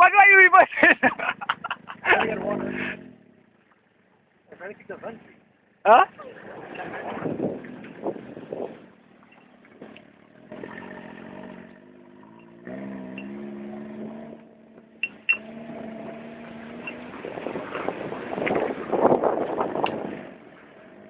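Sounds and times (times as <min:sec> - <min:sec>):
off-road vehicle engine revving: 0:01.0 - 0:03.7, 0:04.5 - 0:21.0.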